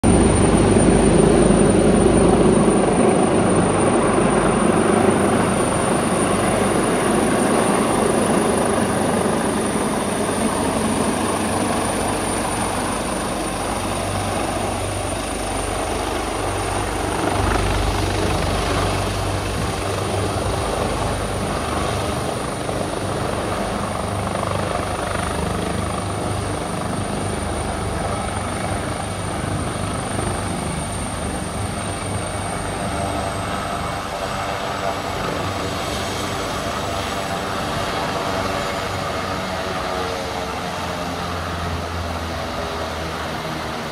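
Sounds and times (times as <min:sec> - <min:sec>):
helicopter rotor and engines: 0:00.0 - 0:43.9.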